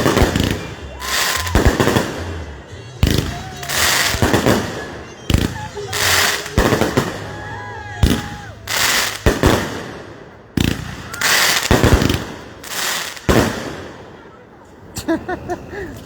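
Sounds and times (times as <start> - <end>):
fireworks bangs with crackling echo: 0.0 - 14.3.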